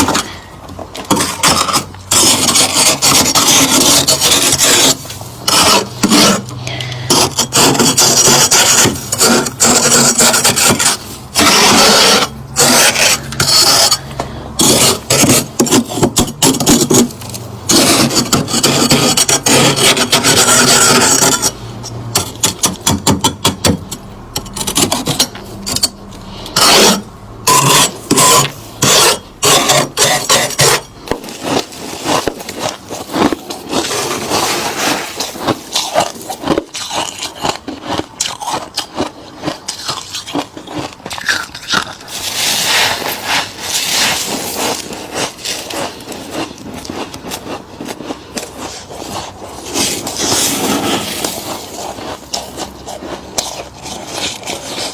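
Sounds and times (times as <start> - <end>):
frost being scraped: 0.0 - 54.9.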